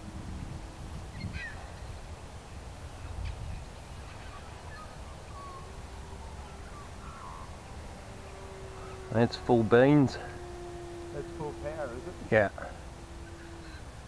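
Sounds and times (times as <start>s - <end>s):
model airplane motor drone: 0.0s - 14.0s
wind rumble on microphone: 0.0s - 14.0s
bird calls: 1.0s - 2.2s, 2.9s - 14.0s.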